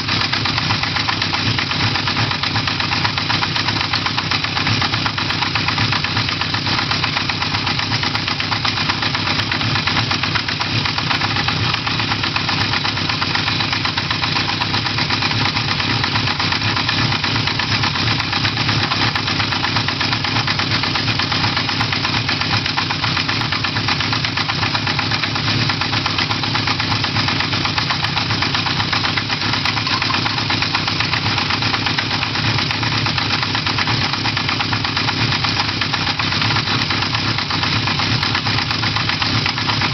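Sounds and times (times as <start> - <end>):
motorcycle engine idling: 0.0 - 39.9
rapid engine ticking: 0.0 - 39.9.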